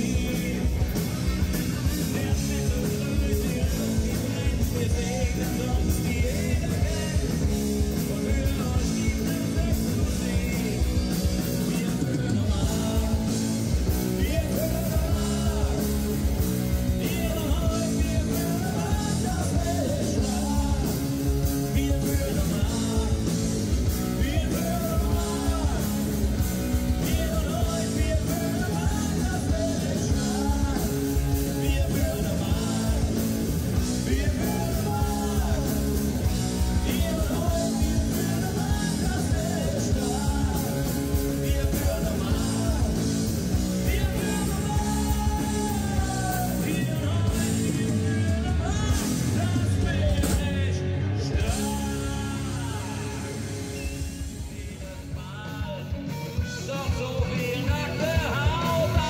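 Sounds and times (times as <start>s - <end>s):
person singing: 0.0s - 59.0s
rock band playing: 0.0s - 59.0s
steady drum beat: 0.0s - 59.0s.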